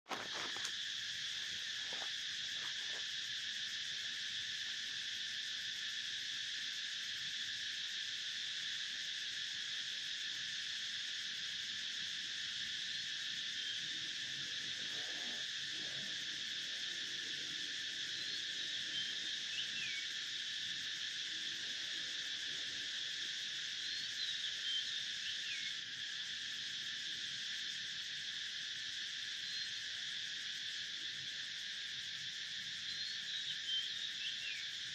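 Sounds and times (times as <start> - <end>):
insects droning: 0.1 - 34.9.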